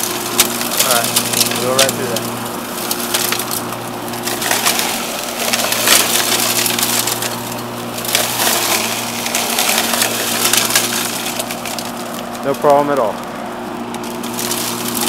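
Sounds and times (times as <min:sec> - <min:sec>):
blade chopping brush: 0:00.0 - 0:15.0
electric motor humming: 0:00.0 - 0:15.0.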